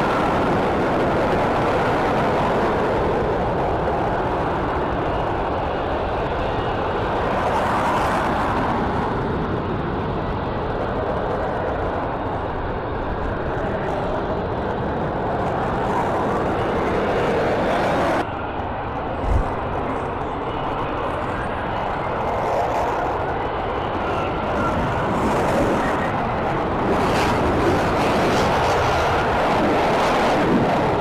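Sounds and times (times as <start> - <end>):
airplane engine flying past: 0.0 - 31.0.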